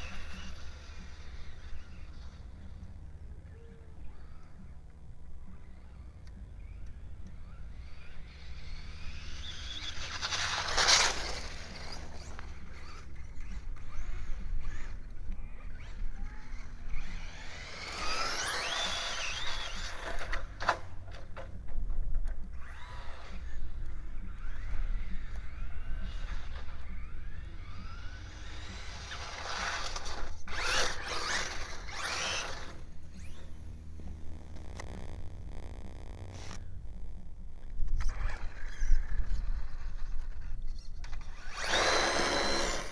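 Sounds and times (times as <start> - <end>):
toy car electric motor whining: 0.0 - 21.5, 22.3 - 36.7, 37.7 - 42.9
steady low rumble: 0.0 - 41.2
tyres spinning in snow: 6.6 - 21.8, 22.5 - 42.9.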